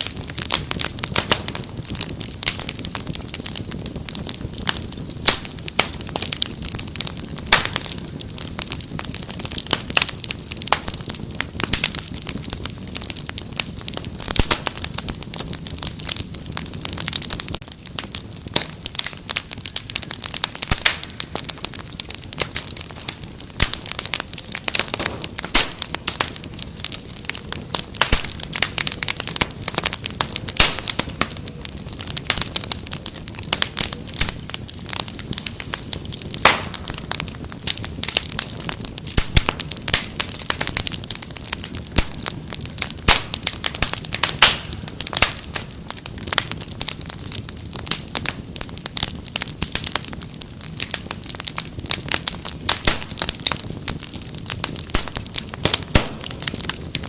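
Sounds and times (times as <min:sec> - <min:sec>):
low fire hiss: 0:00.0 - 0:57.0
wood fire crackling and popping: 0:00.0 - 0:57.0.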